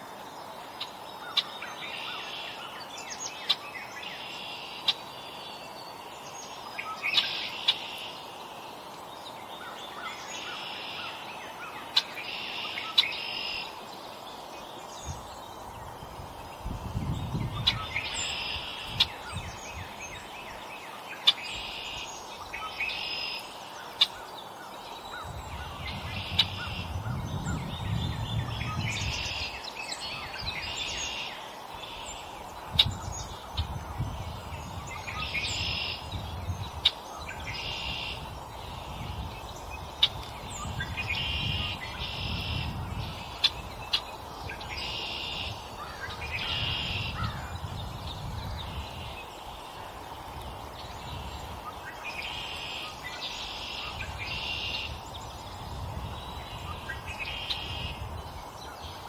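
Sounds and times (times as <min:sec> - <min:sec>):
songbirds chirping and calling: 0:00.0 - 0:59.0.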